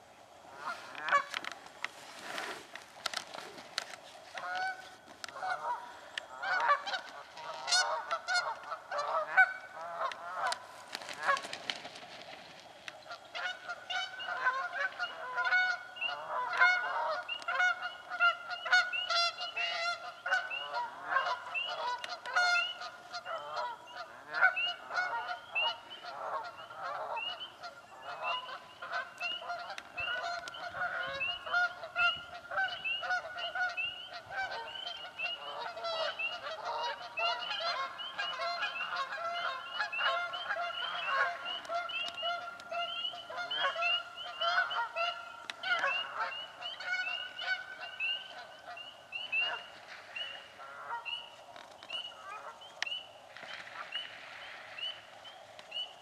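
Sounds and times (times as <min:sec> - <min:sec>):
geese honking: 0:00.5 - 0:01.6, 0:03.1 - 0:11.6, 0:13.0 - 0:51.4.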